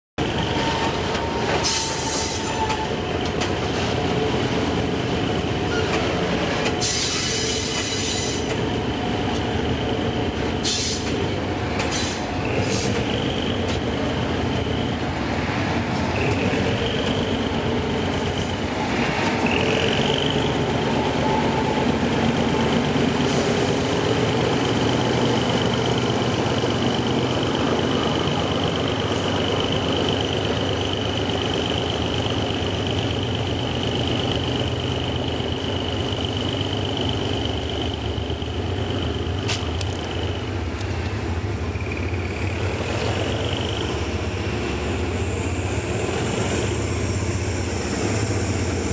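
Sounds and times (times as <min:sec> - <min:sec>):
diesel locomotive engine running: 0:00.2 - 0:48.9
train carriages rumbling: 0:00.2 - 0:48.9
train wheels squealing on rails: 0:00.2 - 0:48.9.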